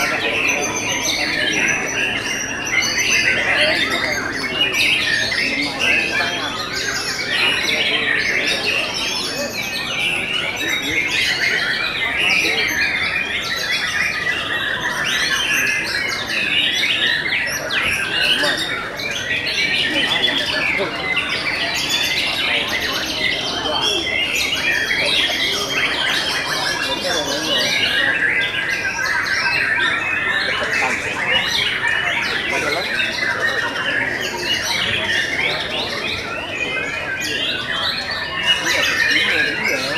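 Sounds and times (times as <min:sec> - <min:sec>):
birds singing whistles and chatter: 0:00.0 - 0:39.9.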